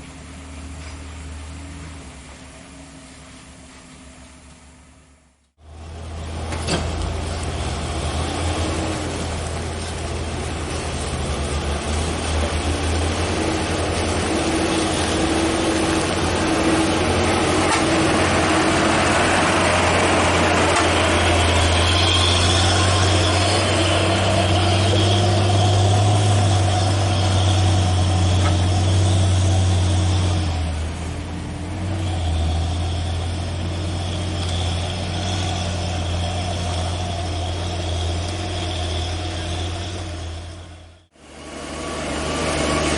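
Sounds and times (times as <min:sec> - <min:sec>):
diesel truck engine under load: 0:00.0 - 0:42.9
road noise: 0:00.0 - 0:42.9.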